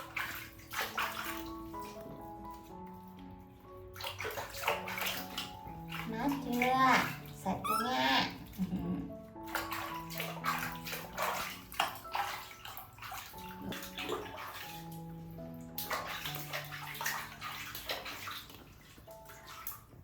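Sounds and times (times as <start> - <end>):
background music of held notes: 0.0 - 20.0
bath water splashing: 0.0 - 20.0.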